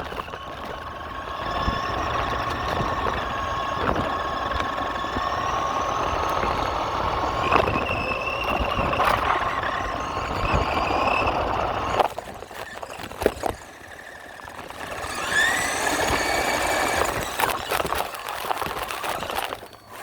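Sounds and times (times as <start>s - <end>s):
toy truck motor whining: 0.0s - 20.0s.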